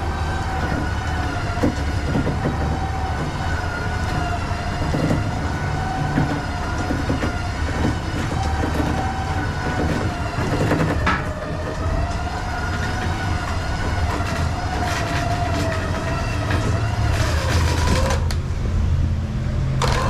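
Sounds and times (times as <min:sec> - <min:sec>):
knocks and rattles: 0:00.0 - 0:18.4
heavy machinery rumbling and whining: 0:00.0 - 0:20.0.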